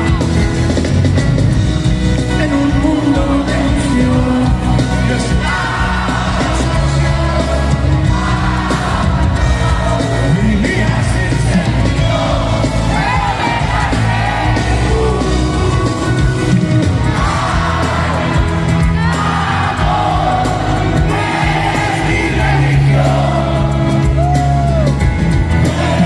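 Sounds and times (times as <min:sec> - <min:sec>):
crowd shouting and whooping: 0:00.0 - 0:01.1, 0:03.1 - 0:26.0
live band playing: 0:00.0 - 0:26.0
man singing lead vocal: 0:02.2 - 0:24.9.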